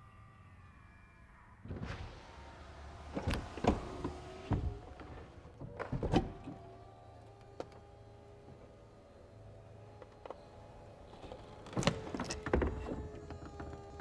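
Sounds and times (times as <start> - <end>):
car window motor whir: 1.7 - 14.0
roof motor hum: 1.7 - 14.0.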